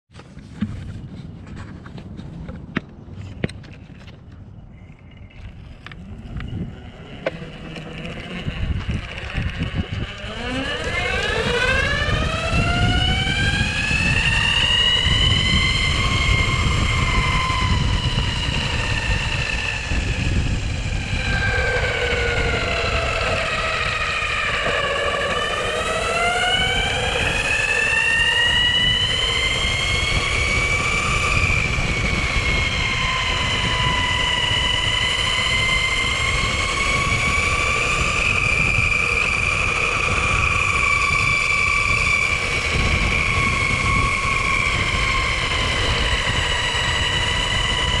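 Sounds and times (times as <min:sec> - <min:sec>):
wheels rumbling on asphalt: 0:00.1 - 0:48.0
electric motors whining: 0:03.2 - 0:48.0.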